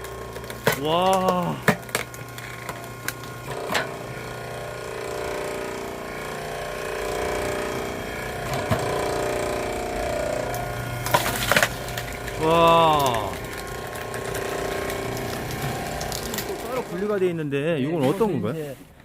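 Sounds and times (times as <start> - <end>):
log splitter machine humming: 0.0 - 19.0
wood cracking: 0.0 - 19.0.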